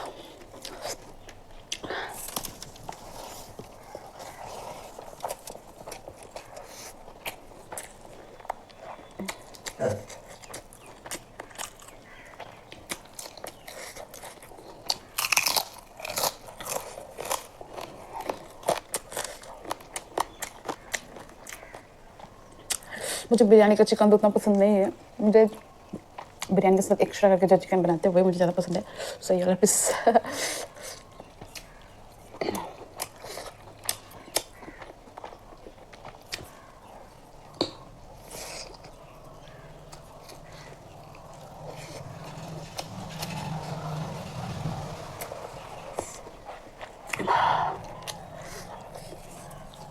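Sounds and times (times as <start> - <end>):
crunchy chewing: 0.0 - 23.0, 30.2 - 49.9
person chewing food: 0.0 - 23.0, 30.6 - 49.9.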